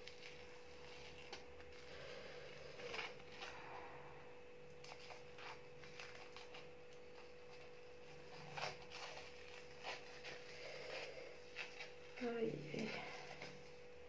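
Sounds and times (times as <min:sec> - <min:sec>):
face mask crackling peeled off skin: 0:00.0 - 0:03.6, 0:04.6 - 0:13.8
faint steady hum: 0:00.0 - 0:14.0.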